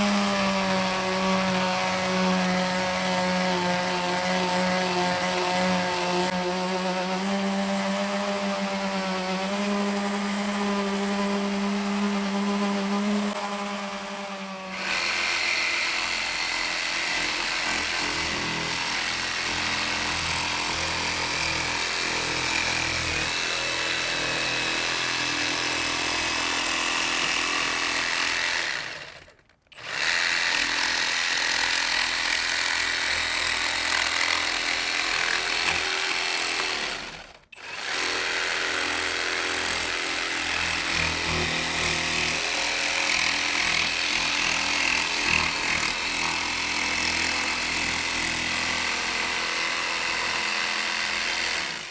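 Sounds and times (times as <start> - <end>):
power tool running: 0.0 - 51.9.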